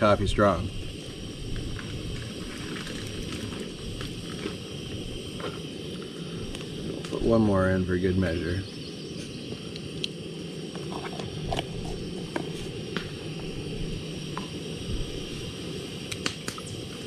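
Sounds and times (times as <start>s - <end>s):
camp stove burner hissing: 0.0s - 17.0s.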